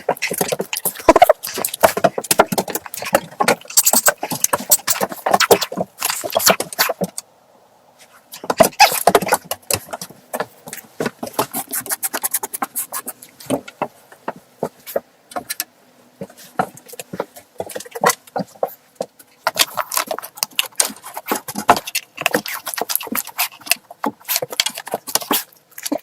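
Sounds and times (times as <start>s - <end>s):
clicks knocks and scrapes: 0.0s - 7.2s, 8.0s - 26.0s.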